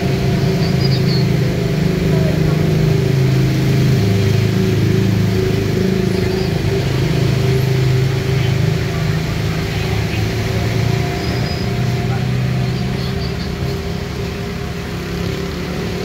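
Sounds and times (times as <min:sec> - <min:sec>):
motorbike engines running: 0:00.0 - 0:16.0.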